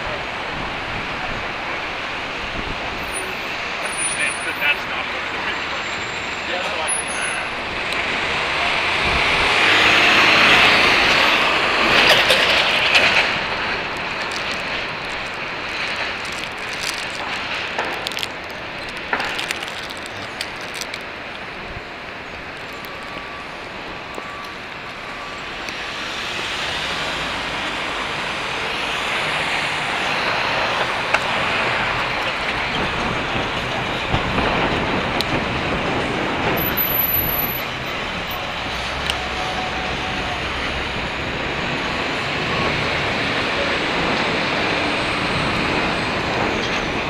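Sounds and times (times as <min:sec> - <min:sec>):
passing vehicles rumble: 0:00.0 - 0:47.0.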